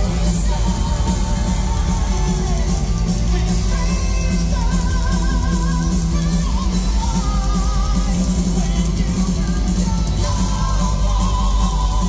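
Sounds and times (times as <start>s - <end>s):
live rock band playing: 0.0s - 12.0s
man singing with vibrato: 0.0s - 12.0s.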